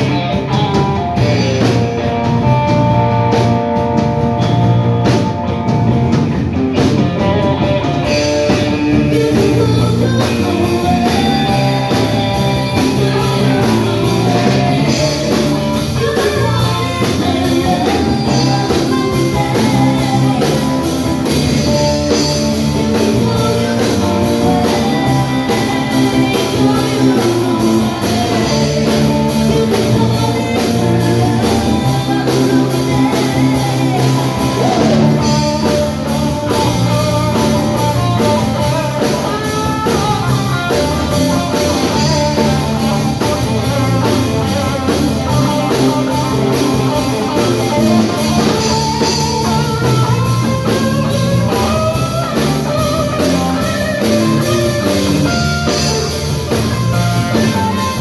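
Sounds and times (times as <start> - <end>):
guitar: 0.0 - 58.0
rock band playing live: 0.0 - 58.0
steady drum beat: 0.0 - 58.0.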